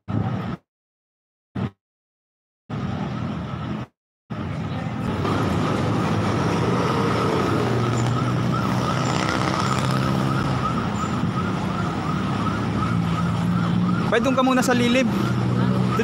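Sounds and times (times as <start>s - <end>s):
traffic engines passing: 2.7s - 16.0s.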